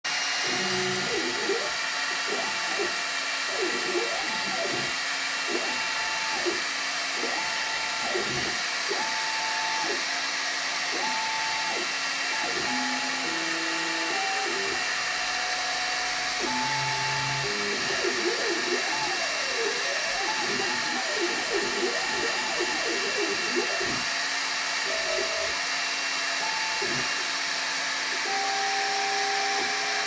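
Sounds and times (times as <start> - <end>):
gantry motors whining: 0.2 - 10.0, 10.9 - 24.2, 24.8 - 25.6, 26.4 - 30.0.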